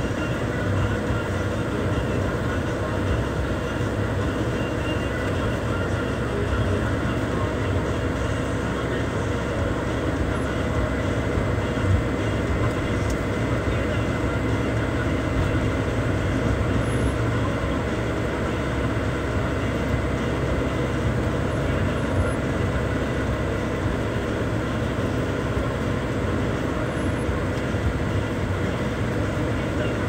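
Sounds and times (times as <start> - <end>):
bus engine and road noise: 0.0 - 30.0.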